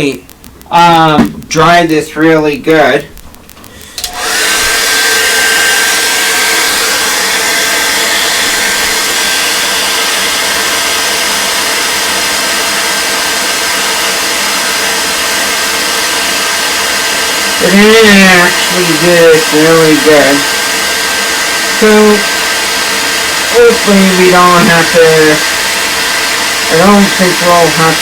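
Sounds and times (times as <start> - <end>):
hair dryer whine: 3.6 - 28.0.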